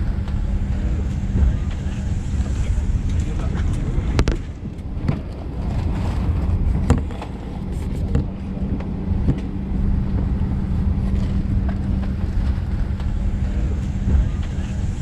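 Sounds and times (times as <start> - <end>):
airplane cabin hum: 0.0 - 15.0.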